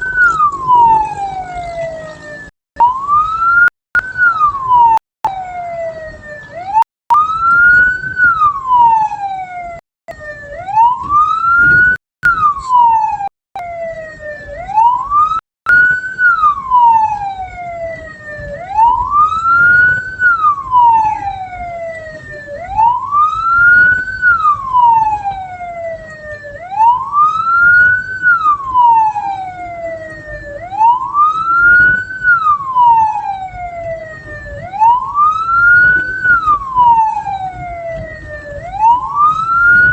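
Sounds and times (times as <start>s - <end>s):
road and engine rumble: 0.0s - 39.9s
vehicle siren wailing: 0.0s - 39.9s.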